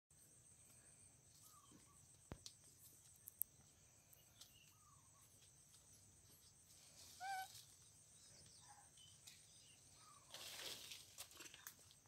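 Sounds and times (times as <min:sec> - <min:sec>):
faint high insect drone: 0:00.1 - 0:12.0.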